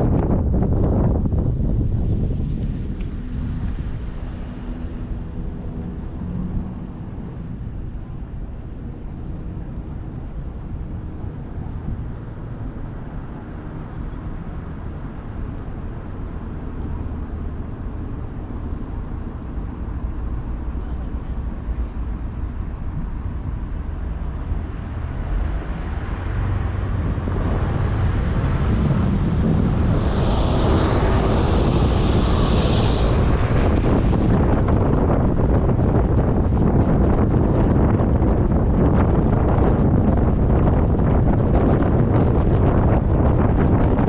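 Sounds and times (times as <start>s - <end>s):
low rumble of vehicles: 0.0s - 44.0s.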